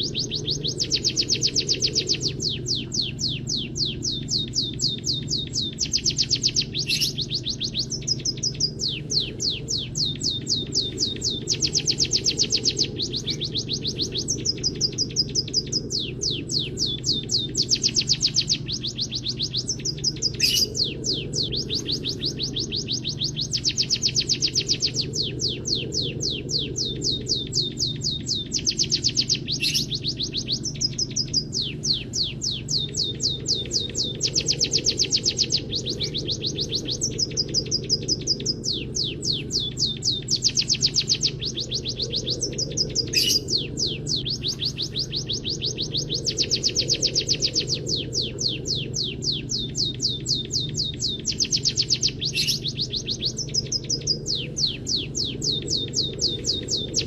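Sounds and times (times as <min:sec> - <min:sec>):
bird song with fast trills: 0:00.0 - 0:57.0
steady low hum: 0:00.0 - 0:57.0.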